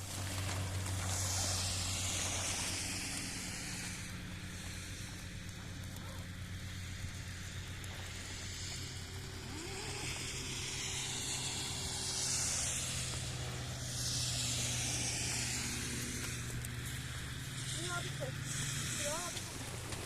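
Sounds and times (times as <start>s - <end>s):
rushing hiss: 0.0s - 5.5s, 6.5s - 20.0s
motor humming: 0.0s - 20.0s.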